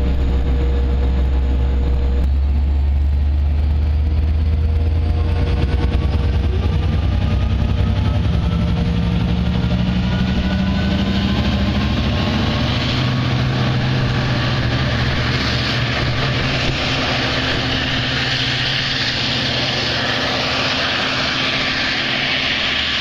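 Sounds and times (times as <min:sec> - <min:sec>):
diesel locomotive engines droning: 0:00.0 - 0:23.0
rushing noise: 0:00.0 - 0:23.0.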